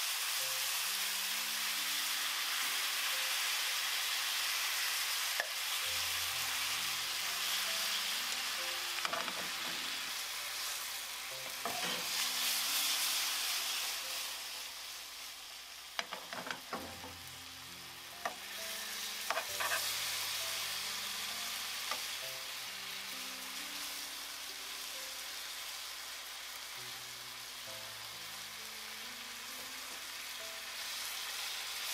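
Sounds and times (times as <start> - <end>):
meat sizzling in a frying pan: 0.0 - 31.9
soft background music: 0.0 - 31.9.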